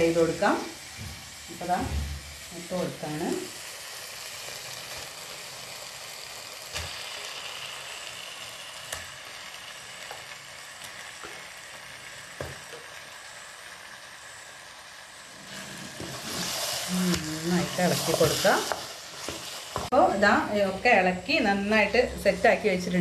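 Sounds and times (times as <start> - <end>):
chicken sizzling in pan: 0.0 - 22.2.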